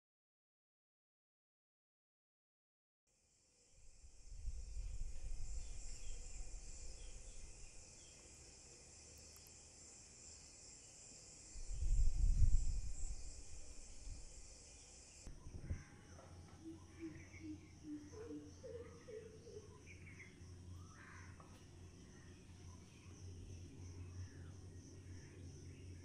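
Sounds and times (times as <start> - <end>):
insects chorus: 3.2 - 26.0.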